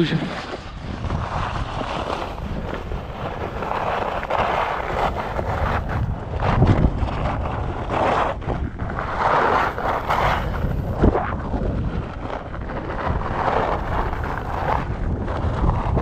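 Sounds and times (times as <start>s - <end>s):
skis scraping on snow: 0.0s - 16.0s
wind buffeting microphone: 0.0s - 16.0s.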